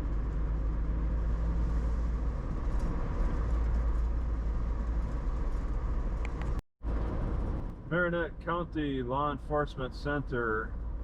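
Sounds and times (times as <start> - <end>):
vehicle cabin road rumble: 0.0 - 11.0.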